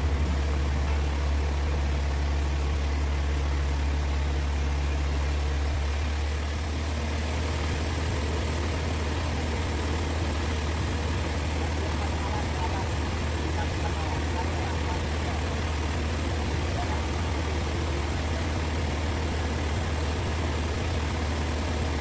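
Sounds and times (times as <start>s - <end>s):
machinery engine humming: 0.0s - 22.0s.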